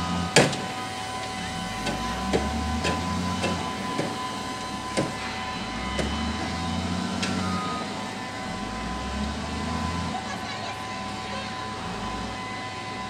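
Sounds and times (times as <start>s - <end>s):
diesel engine revving: 0.0s - 10.6s.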